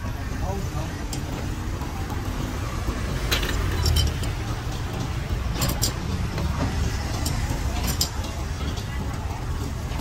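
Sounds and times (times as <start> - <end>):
metal baskets clinking on grill: 0.0 - 10.0
street traffic rumble: 0.0 - 10.0.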